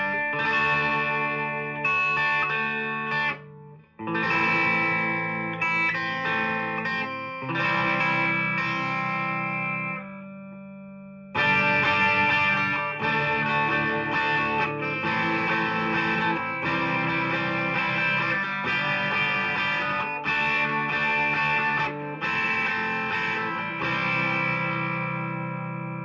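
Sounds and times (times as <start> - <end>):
electric guitar chords with crunch: 0.0 - 26.0.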